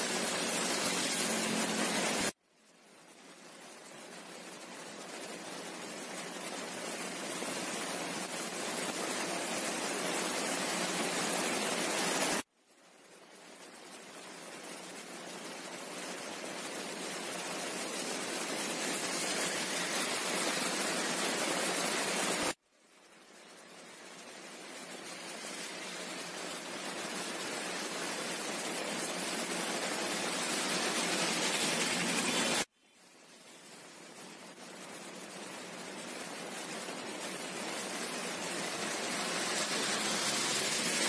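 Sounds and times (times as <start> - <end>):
heavy rain on a road: 0.0 - 2.4, 3.1 - 12.5, 13.2 - 22.6, 23.3 - 41.0.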